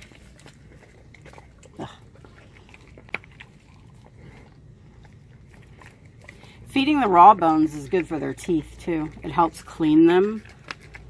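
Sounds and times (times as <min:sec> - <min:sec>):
dog chewing bone: 0:00.0 - 0:11.0
teeth crunching on bone: 0:00.0 - 0:11.0.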